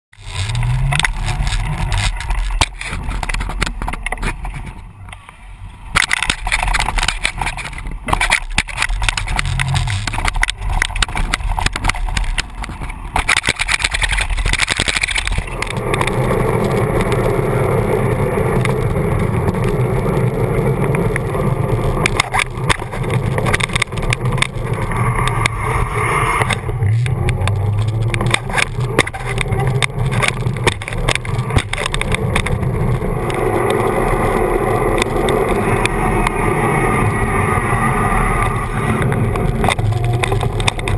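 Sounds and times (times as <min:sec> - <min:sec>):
tyre rolling on pavement: 0:00.2 - 0:05.0, 0:06.0 - 0:40.9
bicycle knocks and rattles: 0:00.2 - 0:37.8, 0:38.4 - 0:40.9
wind on microphone: 0:00.2 - 0:40.9.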